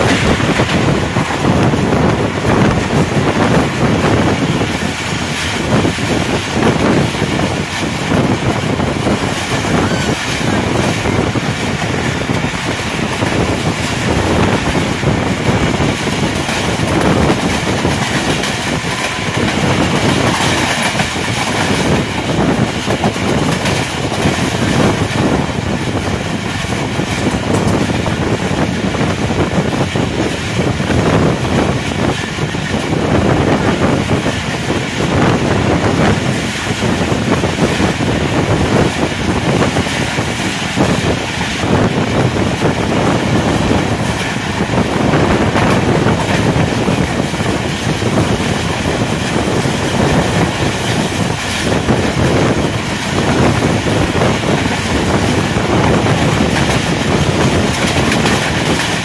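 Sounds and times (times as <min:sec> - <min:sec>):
train rail and wind rush: 0:00.0 - 0:59.0.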